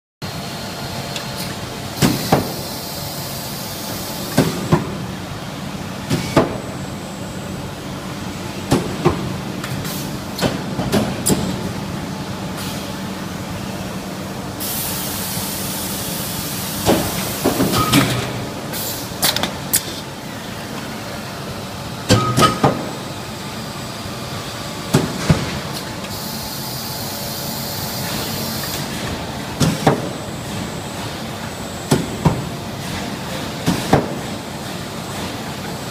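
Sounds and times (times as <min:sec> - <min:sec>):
steady machine hum: 0:00.2 - 0:35.9.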